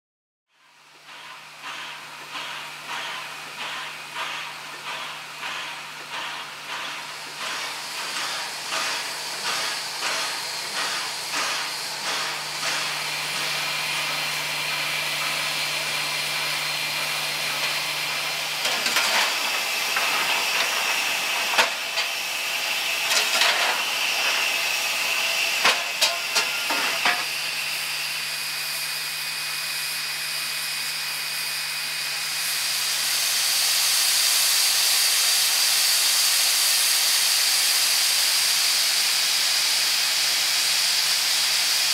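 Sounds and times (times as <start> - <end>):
steam locomotive hissing: 0.7 - 41.9.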